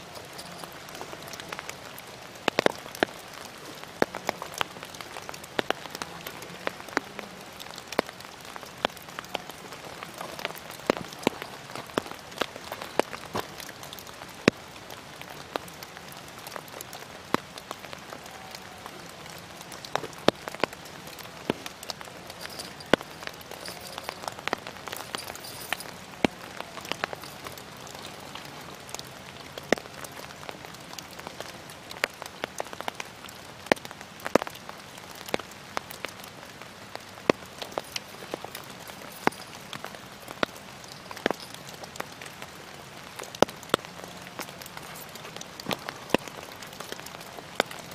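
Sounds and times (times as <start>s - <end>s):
raindrops ticking on umbrella: 0.0s - 47.9s
steady rain: 0.0s - 47.9s.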